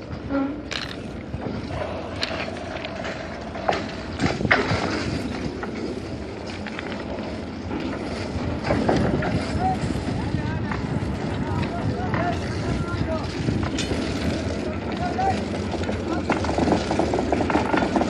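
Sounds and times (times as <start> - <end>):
footsteps on railway ballast: 0.0 - 18.0
wind on microphone: 0.0 - 18.0.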